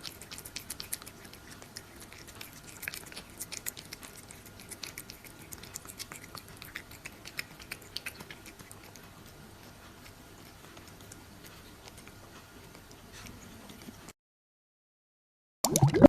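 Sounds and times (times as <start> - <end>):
cat chewing wet food: 0.0 - 14.2.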